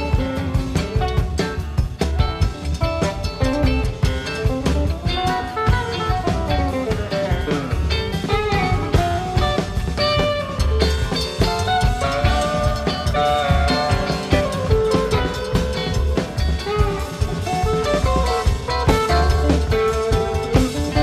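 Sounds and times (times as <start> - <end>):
electric guitar lead lines: 0.0 - 21.0
live rock band playing: 0.0 - 21.0.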